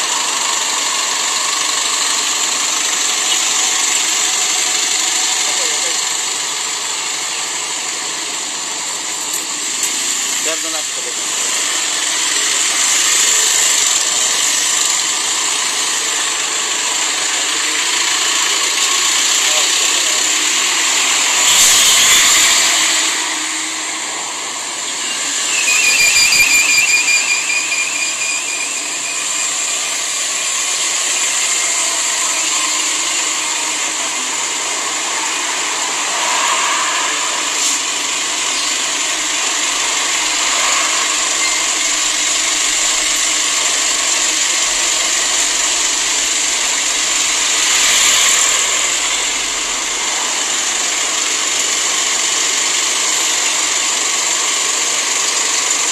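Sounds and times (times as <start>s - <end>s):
steady hiss: 0.0s - 55.9s
vehicles passing on road: 0.0s - 55.9s
wavering whine: 0.0s - 55.9s.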